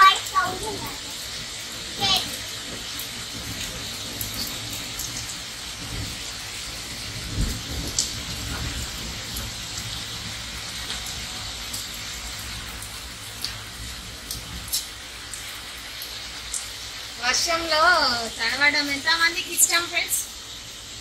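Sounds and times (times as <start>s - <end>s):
rain drops tapping: 0.0s - 21.0s
rain falling: 0.0s - 21.0s.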